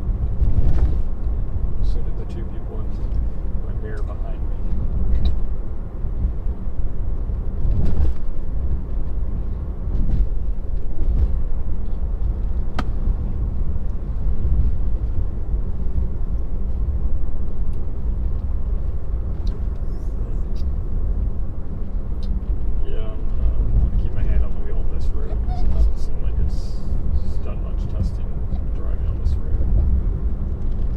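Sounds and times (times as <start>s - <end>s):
road and tyre noise: 0.0s - 30.9s.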